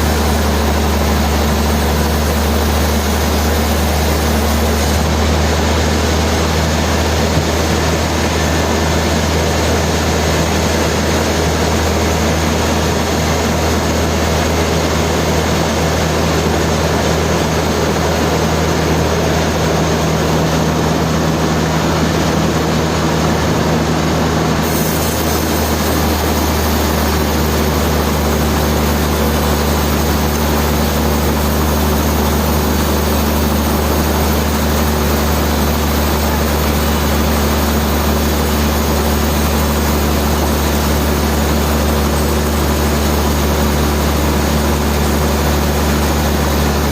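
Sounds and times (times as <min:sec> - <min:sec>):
sawmill machinery humming: 0:00.0 - 0:46.9.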